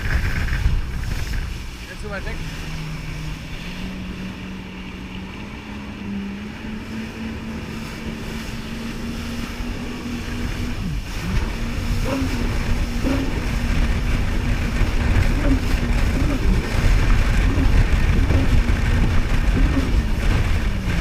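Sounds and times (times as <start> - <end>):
jet ski engine running: 0.0 - 21.0
water rushing: 0.0 - 21.0
wind: 0.0 - 21.0.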